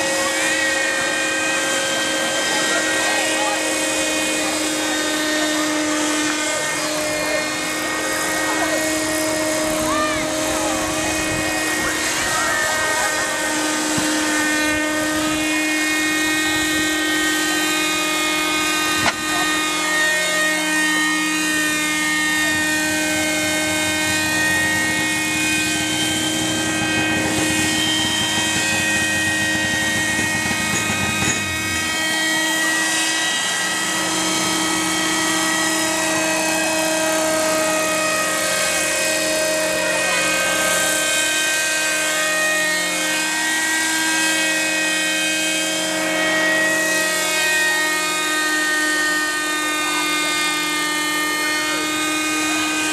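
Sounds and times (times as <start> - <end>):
helicopter rotor noise: 0.0 - 52.9
steady whining tones: 0.0 - 52.9.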